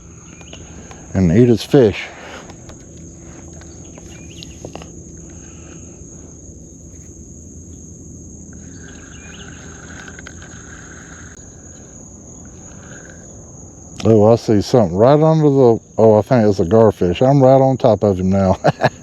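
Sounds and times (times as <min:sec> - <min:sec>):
lower-pitched insect buzzing: 0:00.0 - 0:16.0
insects chirring: 0:00.0 - 0:19.0.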